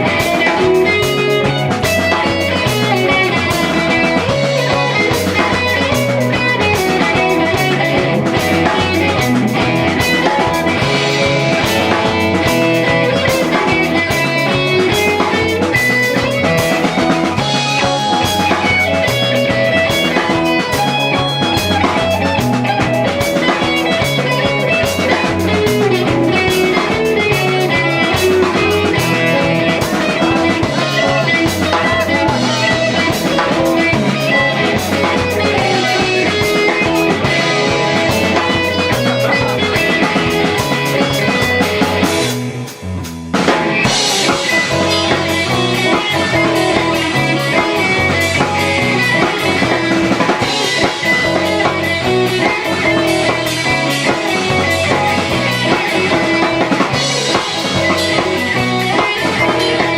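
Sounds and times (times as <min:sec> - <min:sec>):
drum kit: 0:00.0 - 0:59.9
electric guitar: 0:00.0 - 0:59.9
repeating bass line: 0:00.0 - 0:59.9
rock band playing: 0:00.0 - 0:59.9.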